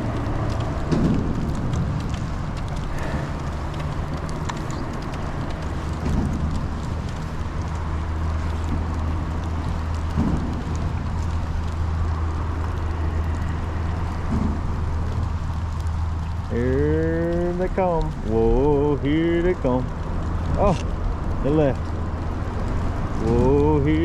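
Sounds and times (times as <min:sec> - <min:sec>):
continuous low hum: 0:00.0 - 0:24.0
rain pattering on boat: 0:00.0 - 0:24.0.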